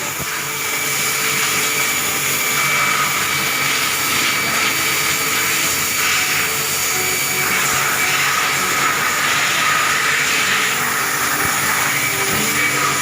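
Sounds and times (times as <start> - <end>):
wash equipment hissing whine: 0.0 - 13.0.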